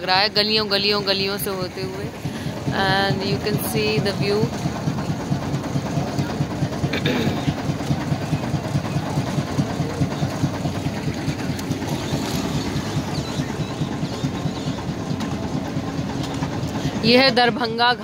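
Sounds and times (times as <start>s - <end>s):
boat engine chugging: 0.0s - 18.0s.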